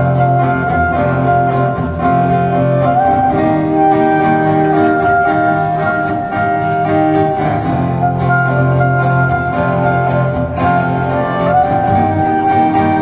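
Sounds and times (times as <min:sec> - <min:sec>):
acoustic guitar accompaniment: 0:00.0 - 0:13.0
clarinet melody: 0:00.0 - 0:13.0.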